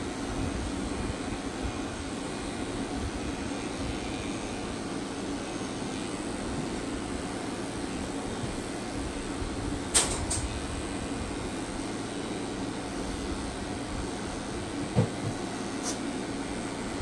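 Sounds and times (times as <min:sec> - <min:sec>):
grooming tool motor hum: 0:00.0 - 0:17.0.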